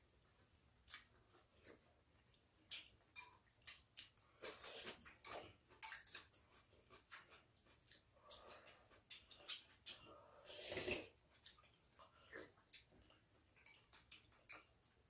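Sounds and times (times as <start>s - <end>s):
chewing sounds: 0.8s - 15.0s.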